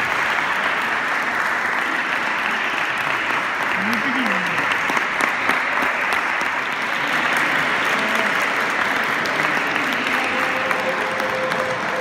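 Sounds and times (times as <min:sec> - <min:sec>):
spectators clapping: 0:00.0 - 0:12.0.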